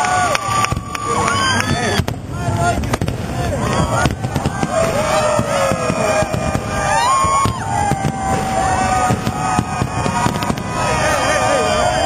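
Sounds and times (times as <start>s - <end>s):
fireworks bangs: 0.0s - 12.0s
whistling fireworks: 0.0s - 12.0s.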